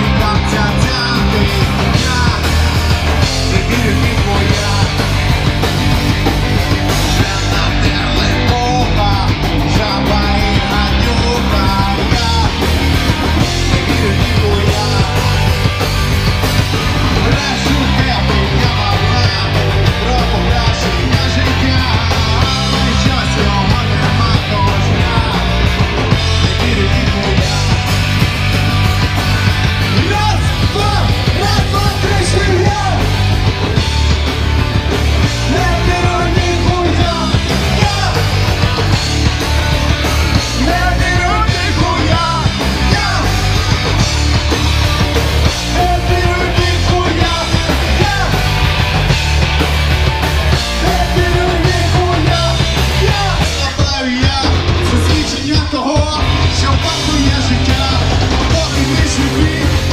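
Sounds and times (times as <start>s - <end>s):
punk rock band playing loudly: 0.0s - 59.9s.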